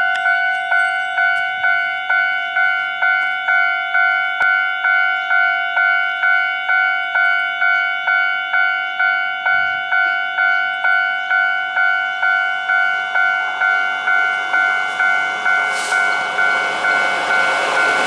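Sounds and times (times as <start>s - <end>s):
level crossing bell ringing: 0.0s - 18.0s.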